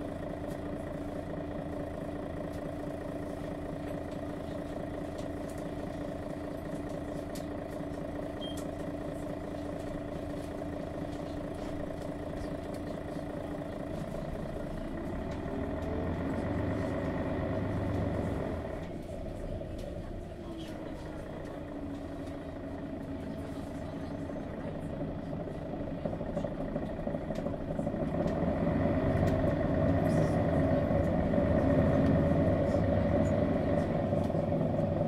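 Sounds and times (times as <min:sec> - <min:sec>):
bus diesel engine running: 0:00.0 - 0:35.0.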